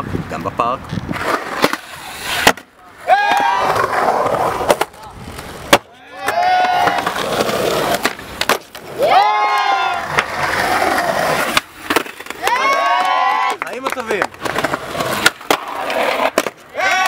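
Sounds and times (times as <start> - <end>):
skateboards rolling on concrete: 0.0 - 17.0
skateboard clacks: 1.1 - 17.0.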